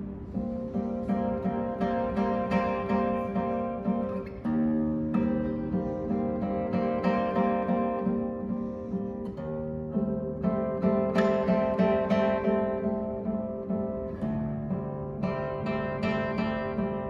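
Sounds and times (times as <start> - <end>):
fingerstyle classical guitar: 0.0 - 17.0.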